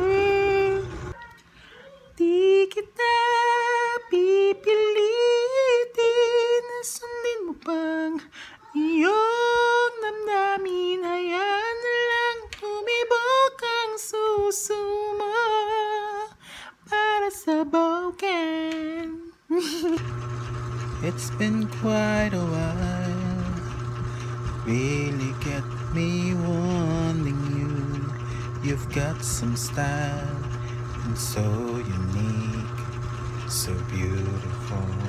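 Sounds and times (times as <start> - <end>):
man singing unaccompanied: 0.0 - 1.1, 2.2 - 19.3, 20.9 - 35.0.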